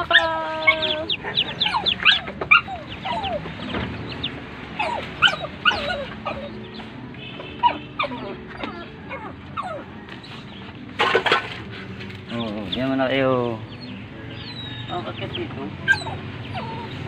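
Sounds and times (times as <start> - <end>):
ducklings peeping: 0.0 - 10.8, 11.7 - 17.0.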